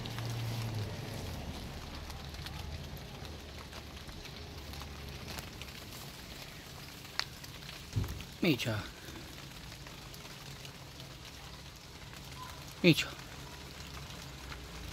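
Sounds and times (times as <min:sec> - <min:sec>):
light rain pattering: 0:00.0 - 0:14.9.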